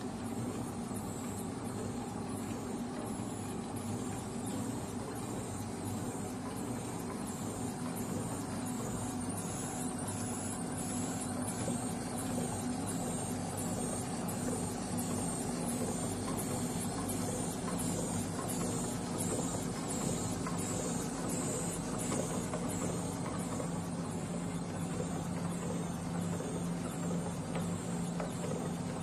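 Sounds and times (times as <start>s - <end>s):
machine motor hum: 0.0s - 29.0s.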